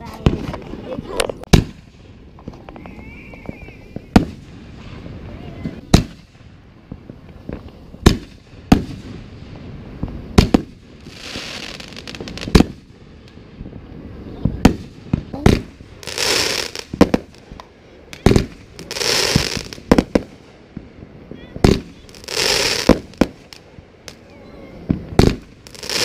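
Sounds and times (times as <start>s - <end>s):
firework bangs: 0.0s - 26.0s
hissing crackle of sparks: 0.0s - 26.0s.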